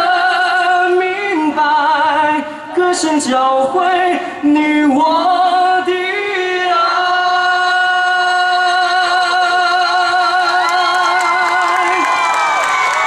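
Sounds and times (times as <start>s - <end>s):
man singing a cappella: 0.0s - 12.1s.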